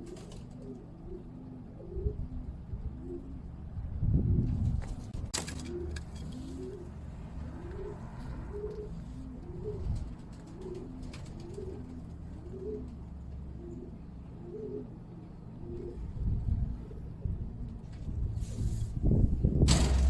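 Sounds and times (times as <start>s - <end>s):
pigeon cooing: 0.0s - 3.7s, 5.4s - 18.6s
low steady rumble: 0.5s - 5.3s, 5.9s - 20.0s.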